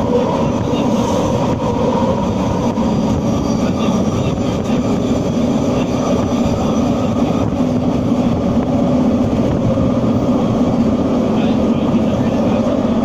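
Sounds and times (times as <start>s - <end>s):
train running gear rumble: 0.0s - 13.0s.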